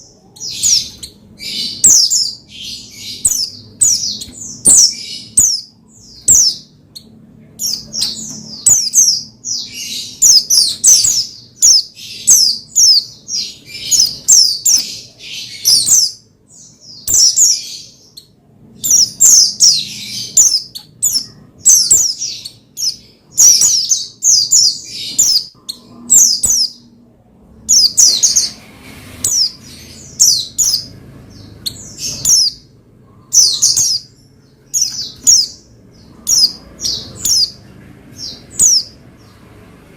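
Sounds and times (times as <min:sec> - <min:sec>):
bird chirping high-pitched: 0:00.0 - 0:28.6, 0:29.2 - 0:39.7.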